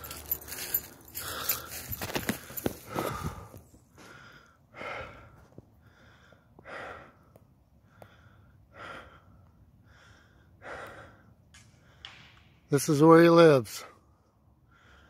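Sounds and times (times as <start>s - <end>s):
person breathing hard: 0.0s - 12.4s, 14.1s - 15.0s.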